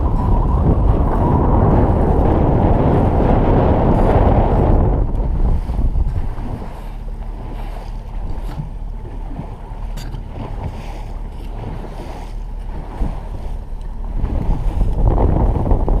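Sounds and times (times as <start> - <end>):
outboard motor running: 0.0 - 16.0
water rushing past hull: 0.0 - 16.0
wind buffeting microphone: 0.0 - 16.0.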